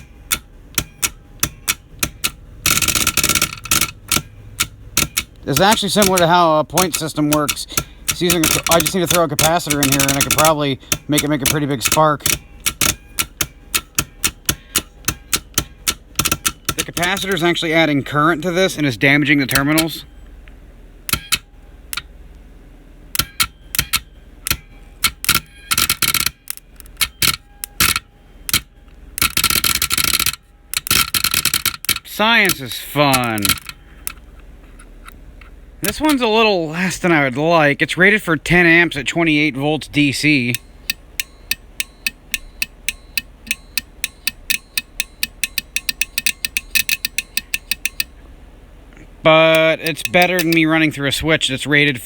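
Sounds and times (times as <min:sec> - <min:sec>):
electrical contactor clicking: 0:00.0 - 0:18.0, 0:18.7 - 0:22.4, 0:23.1 - 0:36.4, 0:40.0 - 0:50.9.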